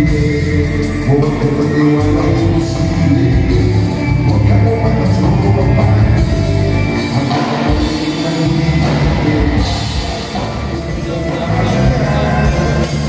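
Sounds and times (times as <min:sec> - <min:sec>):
drums: 0:00.0 - 0:13.0
person singing: 0:00.0 - 0:13.0
rock band music: 0:00.0 - 0:13.0.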